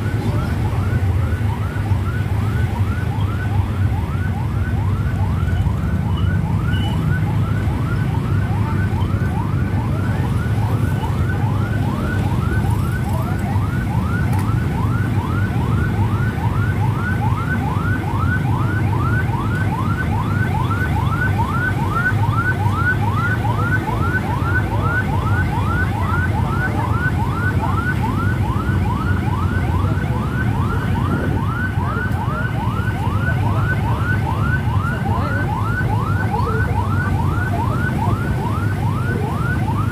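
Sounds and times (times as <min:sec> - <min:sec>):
electronic siren yelping: 0:00.0 - 0:39.9
motorcycle engines rumbling: 0:00.0 - 0:39.9.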